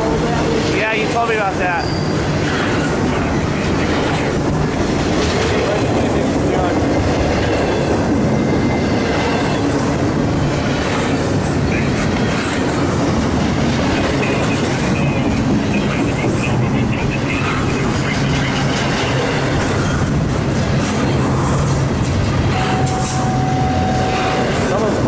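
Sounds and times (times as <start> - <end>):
freight train wheels rumbling on rail: 0.0 - 25.0.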